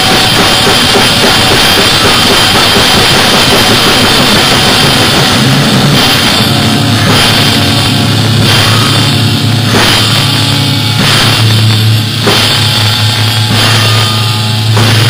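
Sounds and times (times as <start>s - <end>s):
drum kit: 0.0s - 15.0s
electric guitars: 0.0s - 15.0s.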